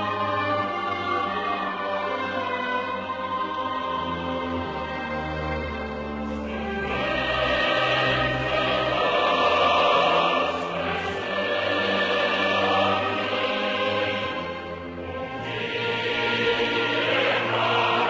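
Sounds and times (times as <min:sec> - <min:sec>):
choir singing: 0:00.0 - 0:18.0
orchestral strings: 0:00.0 - 0:18.0.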